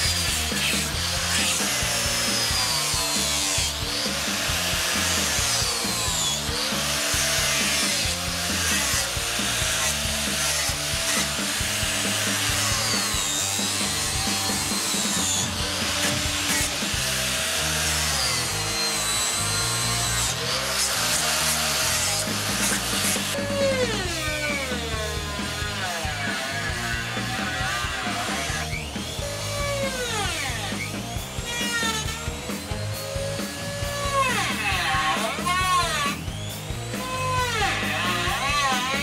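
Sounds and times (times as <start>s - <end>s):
angle grinder sanding wood: 0.0s - 39.0s
background music: 0.0s - 39.0s.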